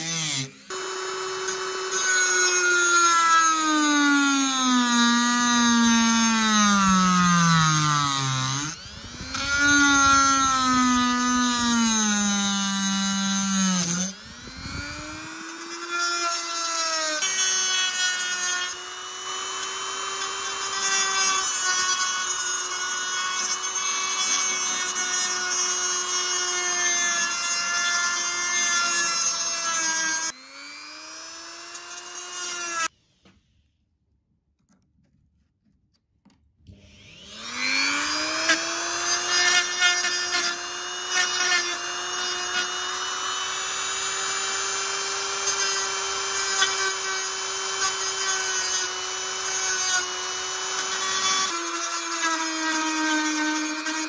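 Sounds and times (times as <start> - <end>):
rotary tool grinding steel: 0.0 - 32.9, 36.9 - 54.0.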